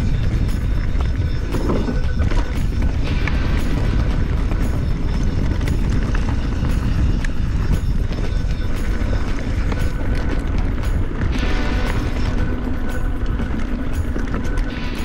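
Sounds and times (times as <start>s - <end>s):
bike clicks and clatter: 0.0s - 15.0s
wind and ride rumble on mic: 0.0s - 15.0s.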